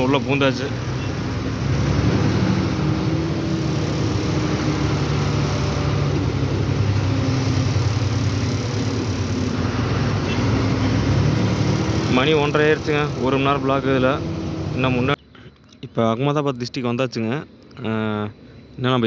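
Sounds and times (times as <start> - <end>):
lorry diesel engine humming: 0.0 - 15.3.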